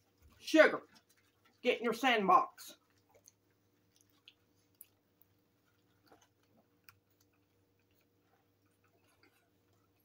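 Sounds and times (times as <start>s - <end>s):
people chewing: 0.0s - 1.7s, 2.8s - 10.0s
faint steady hum: 0.0s - 10.0s.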